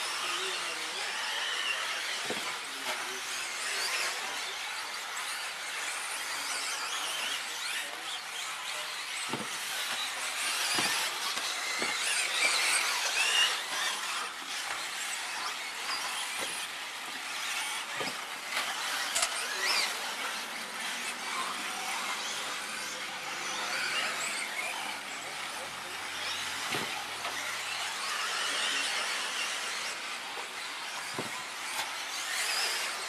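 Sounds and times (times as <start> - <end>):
rc car motor whine: 0.0 - 33.0.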